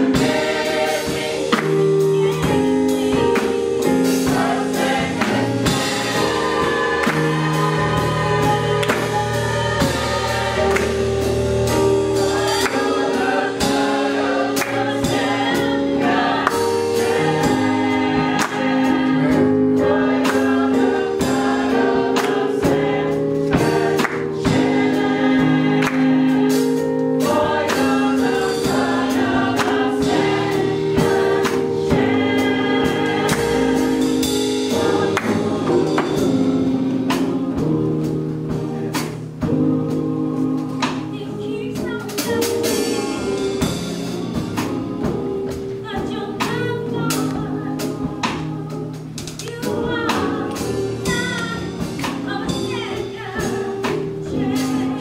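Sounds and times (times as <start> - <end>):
choir singing gospel: 0.0 - 55.0
steady percussion beat: 0.0 - 55.0
sustained accompaniment chords: 0.0 - 55.0.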